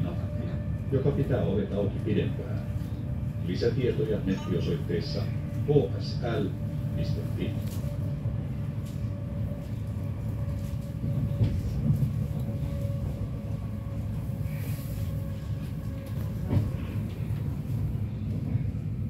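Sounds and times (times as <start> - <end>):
train hum: 0.0 - 19.0
train low rumble: 0.0 - 19.0.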